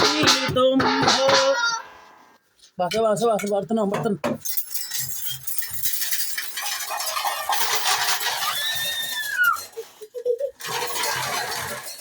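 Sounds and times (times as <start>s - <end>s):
steel utensils clattering: 0.0s - 2.0s, 2.8s - 12.0s.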